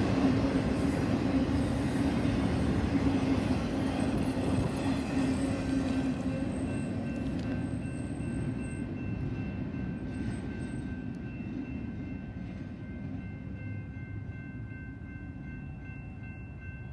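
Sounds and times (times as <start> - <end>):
freight train wheels rumbling: 0.0 - 16.9.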